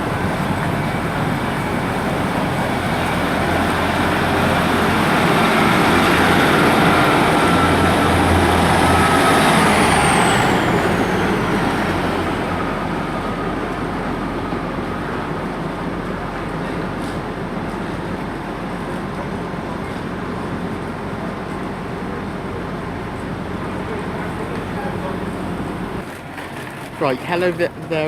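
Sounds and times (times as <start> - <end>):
train passing: 0.0 - 26.2.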